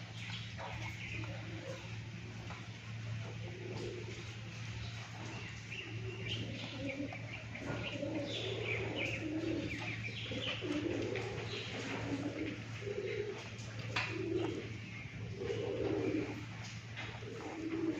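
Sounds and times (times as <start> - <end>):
birds cooing: 0.0 - 17.9
small birds chirping: 0.0 - 17.9
steady low hum: 0.0 - 17.9.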